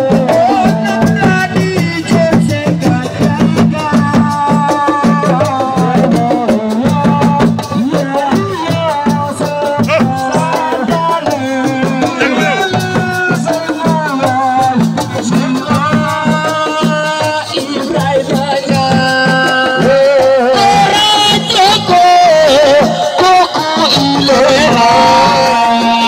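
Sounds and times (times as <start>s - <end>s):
fast drum rhythm: 0.0s - 26.0s.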